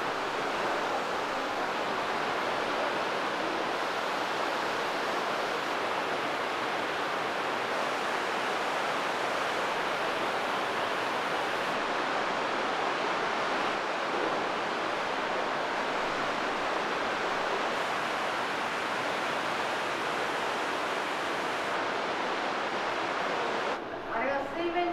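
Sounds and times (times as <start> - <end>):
fast-flowing water rushing: 0.0 - 23.8.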